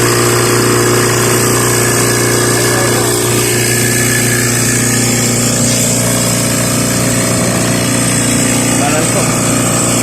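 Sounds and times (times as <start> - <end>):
refrigeration compressor humming: 0.0 - 10.0.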